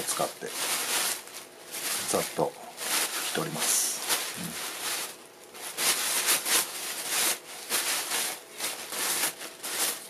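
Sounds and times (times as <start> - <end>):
paper rubbing on wooden bowl: 1.9 - 10.0.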